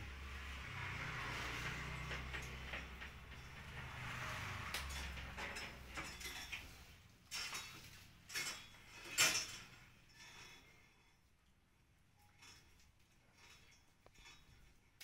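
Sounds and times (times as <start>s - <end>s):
wires rustling and scraping: 0.0s - 15.0s.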